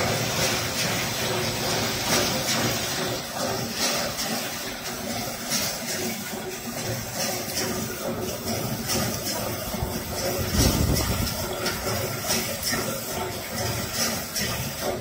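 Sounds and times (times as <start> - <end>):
slicing machine running: 0.0 - 15.0.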